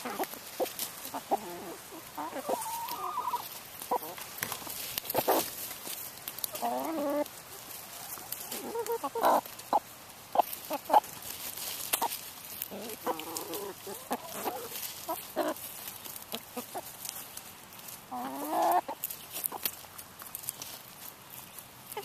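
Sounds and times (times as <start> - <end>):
hens clucking: 0.0 - 22.0.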